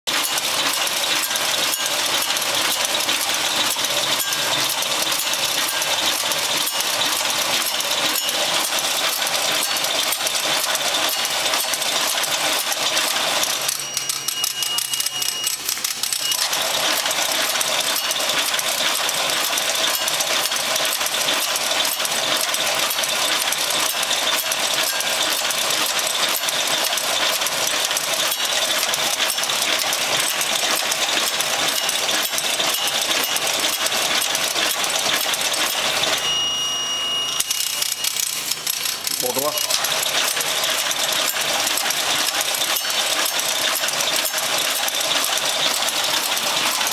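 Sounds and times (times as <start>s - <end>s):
machine clattering: 0.1s - 36.4s, 37.4s - 46.9s.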